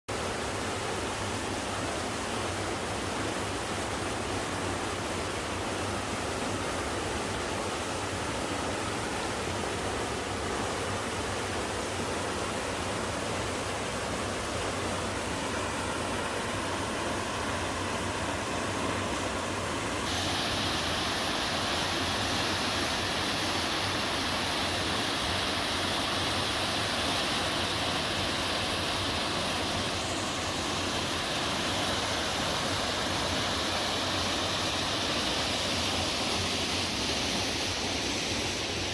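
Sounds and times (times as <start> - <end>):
waterfall rushing over rocks: 0.1 - 38.9.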